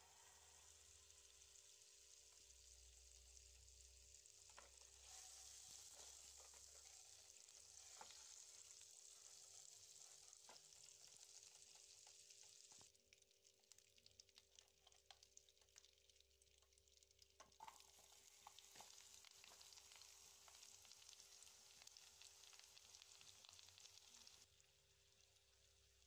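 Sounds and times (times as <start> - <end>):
butter sizzling in a hot pan: 0.0 - 26.0.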